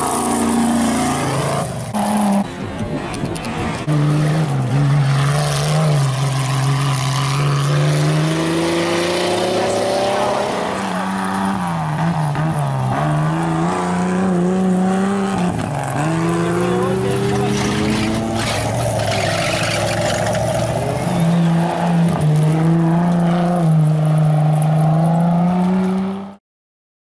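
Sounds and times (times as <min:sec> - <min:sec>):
truck engine running hard: 0:00.0 - 0:24.0.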